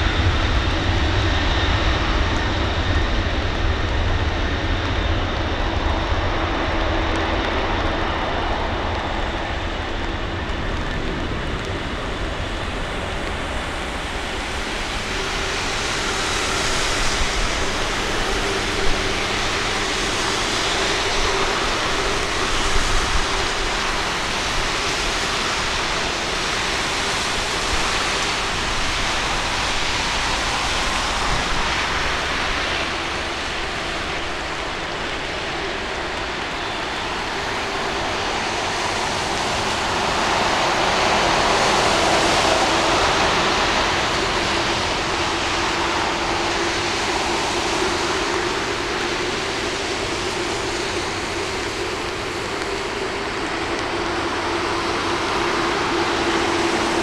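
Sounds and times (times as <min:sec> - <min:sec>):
jet engines roaring at takeoff: 0:00.0 - 0:57.0.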